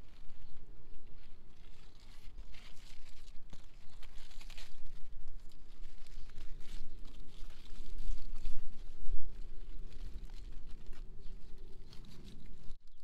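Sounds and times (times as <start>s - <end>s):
leaves and stems rustling: 0.0s - 13.0s
low uneven microphone rumble: 0.0s - 13.0s.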